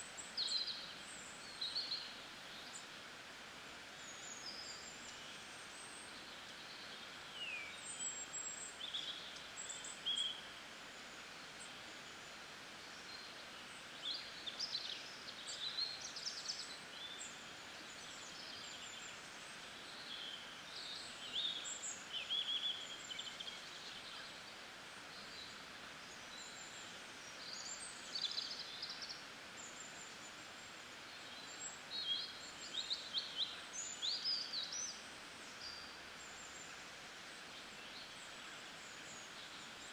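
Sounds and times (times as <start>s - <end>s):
outdoor background hiss: 0.0s - 39.9s
small birds chirping and trilling: 0.1s - 39.9s.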